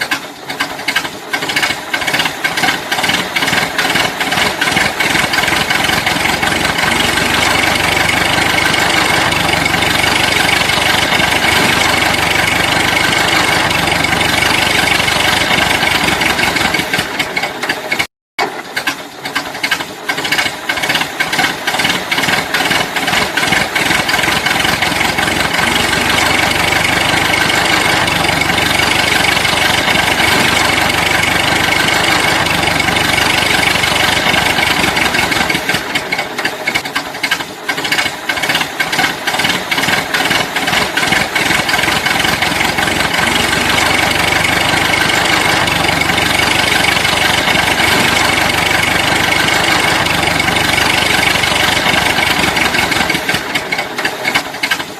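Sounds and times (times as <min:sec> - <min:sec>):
toy vehicle engine with knocking clicks: 0:00.0 - 0:54.9.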